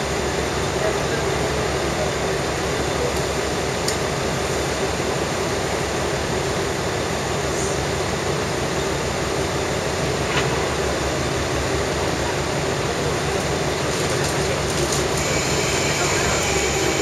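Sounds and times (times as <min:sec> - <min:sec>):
diesel engine drone: 0:00.0 - 0:17.0
train wheels on rails: 0:00.8 - 0:17.0.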